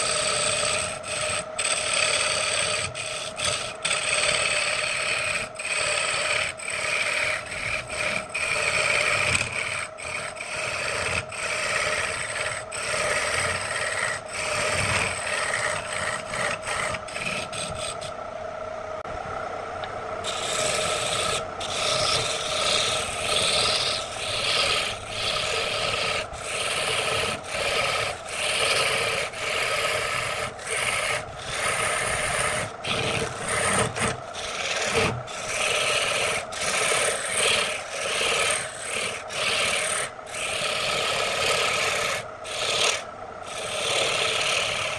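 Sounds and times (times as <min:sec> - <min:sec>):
lathe tool scraping wood: 0:00.0 - 0:18.2, 0:20.2 - 0:44.9
lathe motor hum: 0:00.0 - 0:44.9.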